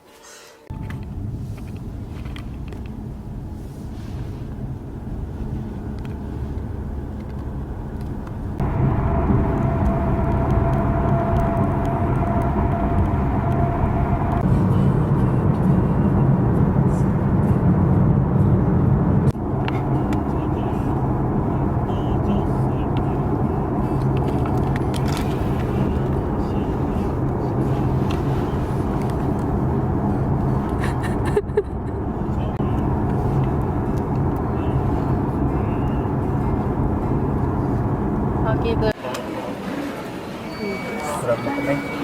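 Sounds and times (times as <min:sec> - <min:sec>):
car engine and road noise: 0:00.6 - 0:42.0.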